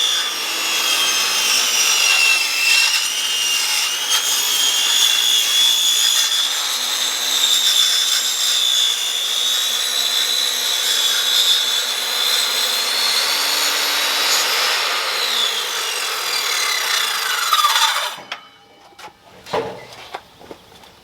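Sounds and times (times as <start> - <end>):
power saw cutting wood: 0.0 - 18.6.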